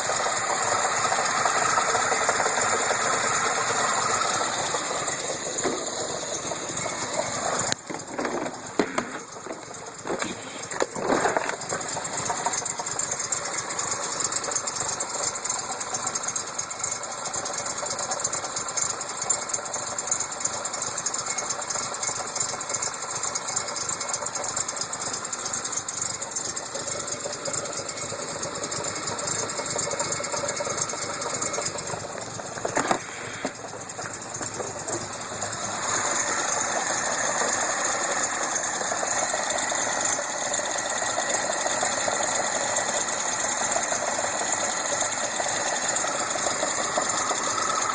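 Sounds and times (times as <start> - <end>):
car engine running: 0.0 - 47.9
fast steady engine knocking: 0.0 - 47.9.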